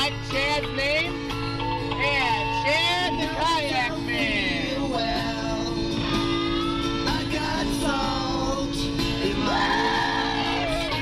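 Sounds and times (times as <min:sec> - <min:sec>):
guitar: 0:00.0 - 0:11.0.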